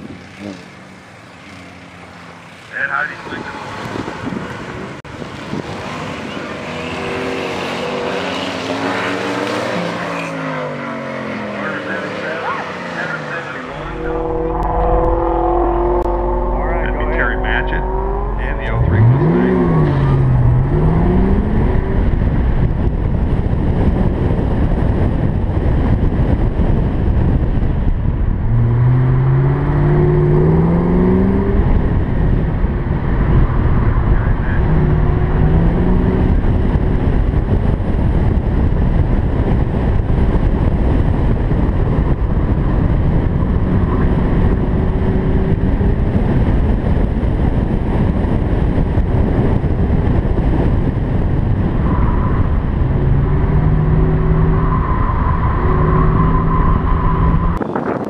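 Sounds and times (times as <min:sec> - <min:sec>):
car engine accelerating hard: 0:00.0 - 0:58.0
wind buffeting microphone: 0:03.3 - 0:07.4, 0:13.6 - 0:58.0.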